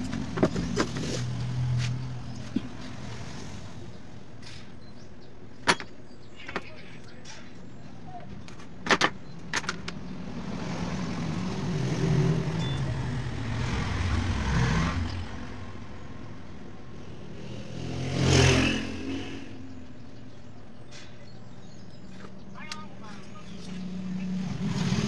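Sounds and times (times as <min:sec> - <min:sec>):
motor vehicles passing: 0:00.0 - 0:05.5, 0:08.7 - 0:25.0.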